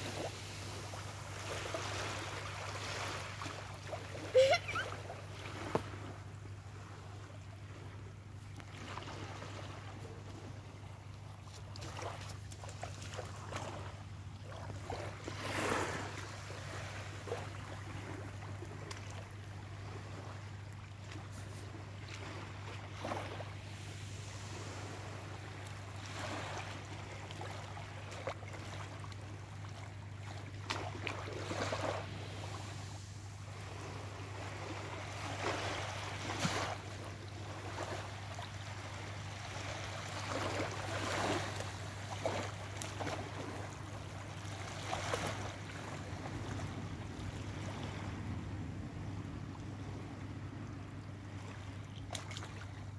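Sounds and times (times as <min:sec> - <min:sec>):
sea lapping at shoreline: 0:00.0 - 0:52.9
steady low hum: 0:00.0 - 0:52.9.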